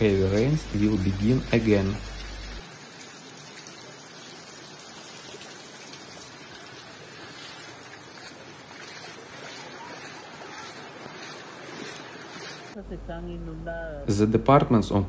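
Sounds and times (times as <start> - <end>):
torrential rain on a street: 0.0 - 12.8.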